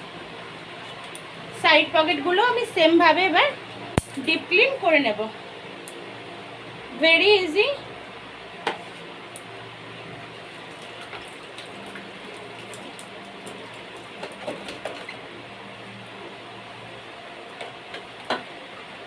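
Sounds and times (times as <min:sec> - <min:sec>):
background hum and hiss: 0:00.0 - 0:19.0.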